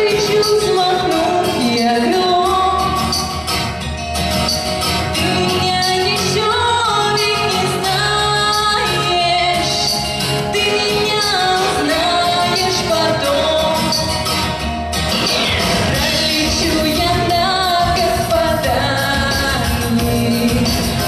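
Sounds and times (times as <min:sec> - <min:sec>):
woman singing: 0:00.0 - 0:03.3, 0:05.2 - 0:14.2, 0:16.0 - 0:21.0
instrumental accompaniment: 0:00.0 - 0:21.0.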